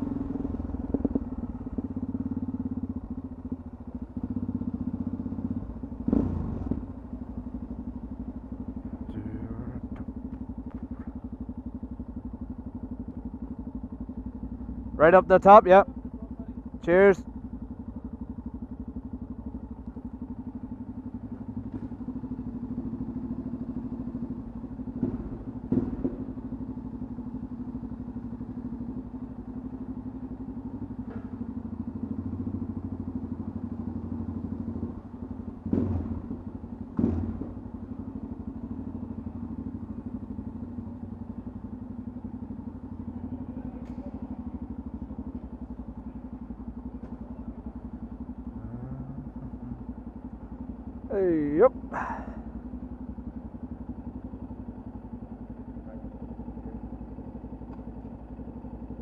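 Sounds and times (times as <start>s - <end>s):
motorcycle engine running slowly: 0.0s - 59.0s.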